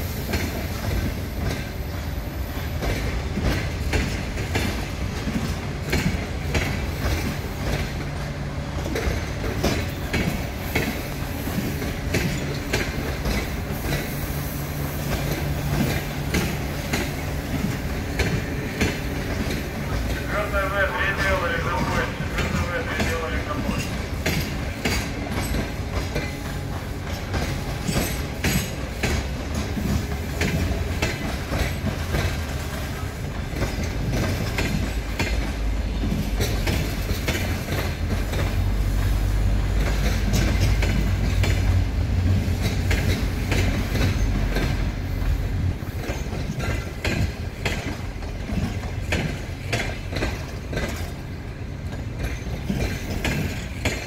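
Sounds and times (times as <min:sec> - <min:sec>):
train rumble: 0:00.0 - 0:54.0
wheels clicking over rail joints: 0:00.2 - 0:54.0.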